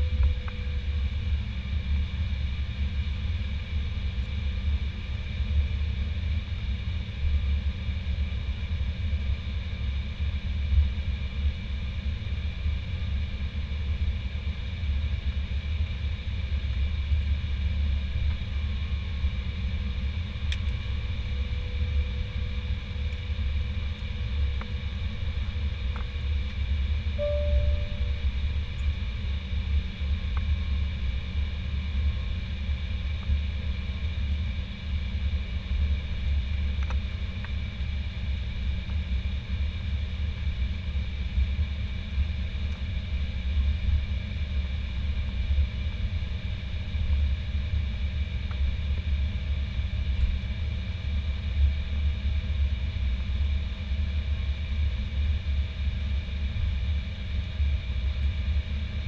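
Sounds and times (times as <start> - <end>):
constant high whine: 0.0 - 59.0
jet engine low rumble: 0.0 - 59.0.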